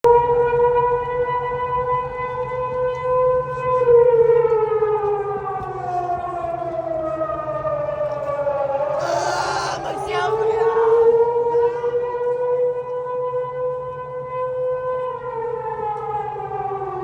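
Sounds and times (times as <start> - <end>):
air-raid siren wailing: 0.1 - 17.0.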